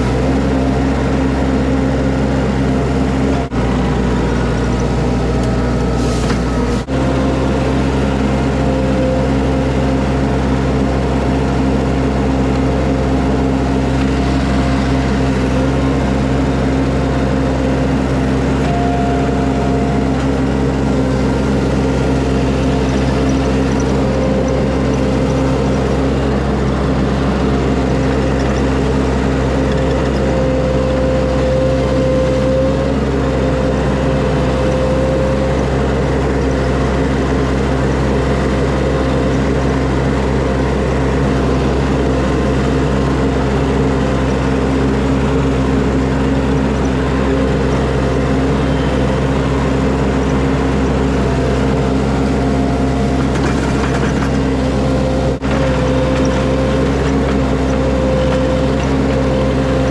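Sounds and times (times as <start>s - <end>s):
steady whine: 0.0s - 9.6s, 10.6s - 37.7s, 40.0s - 59.9s
skid steer engine running: 0.0s - 59.9s.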